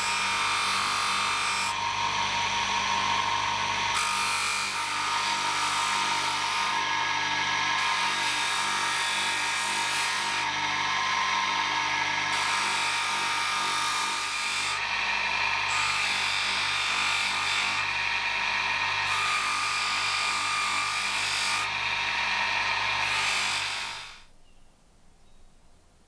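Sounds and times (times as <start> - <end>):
bench motor hum: 0.0 - 24.3.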